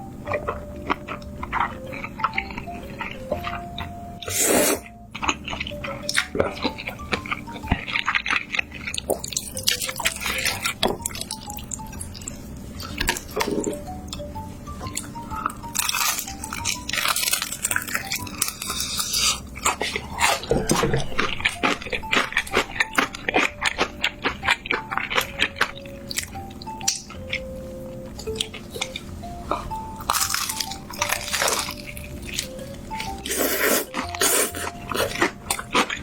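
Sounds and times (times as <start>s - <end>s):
crunching and chewing: 0.0s - 36.0s
soft background music: 0.0s - 36.0s.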